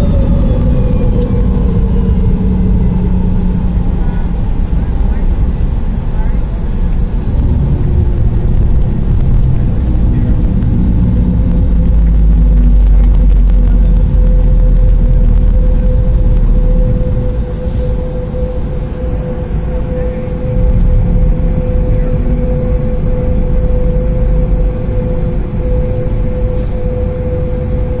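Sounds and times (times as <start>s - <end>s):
low cabin rumble: 0.0s - 28.0s
steady hum: 0.0s - 28.0s.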